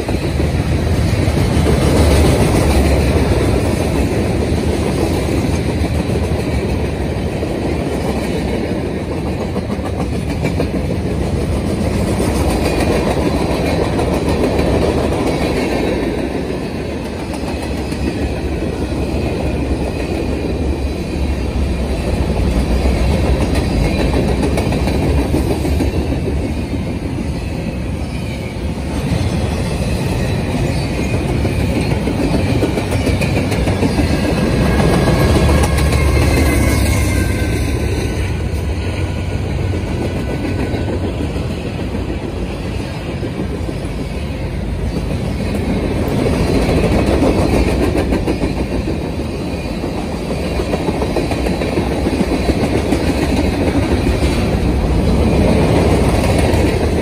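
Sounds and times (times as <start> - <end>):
diesel locomotive passing: 0.0 - 57.0
freight train rumbling past: 0.0 - 57.0.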